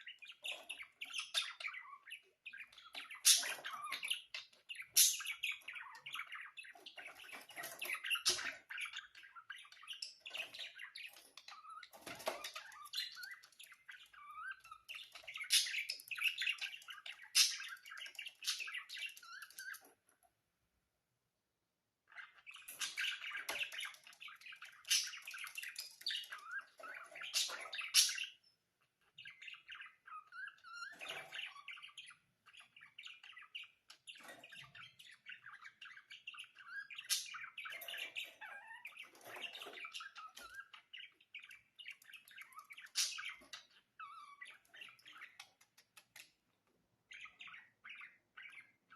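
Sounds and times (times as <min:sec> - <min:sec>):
budgerigars chattering and warbling: 0:00.0 - 0:20.1, 0:22.1 - 0:46.4, 0:47.1 - 0:48.9.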